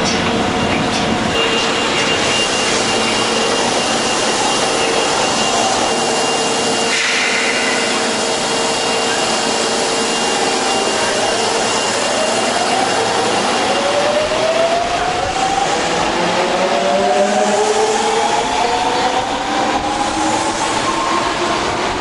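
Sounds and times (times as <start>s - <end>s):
train machinery whirring: 0.0s - 22.0s.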